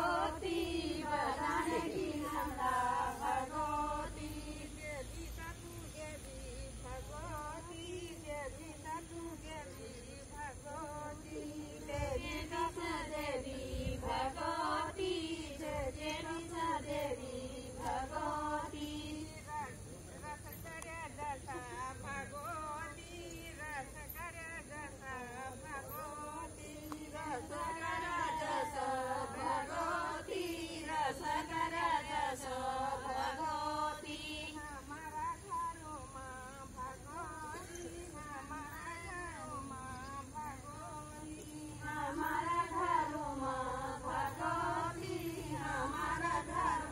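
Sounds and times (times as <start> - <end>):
women singing unaccompanied: 0.0 - 46.9.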